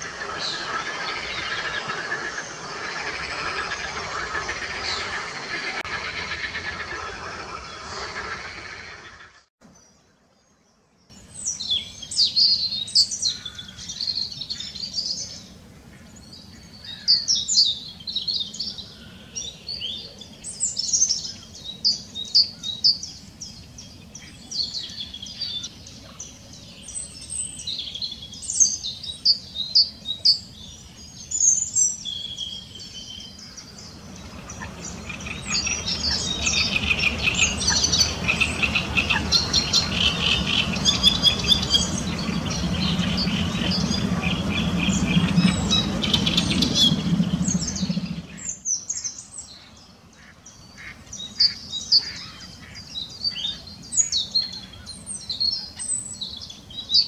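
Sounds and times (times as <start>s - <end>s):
birds chirping: 0.0s - 57.0s
warbler singing: 9.6s - 57.0s.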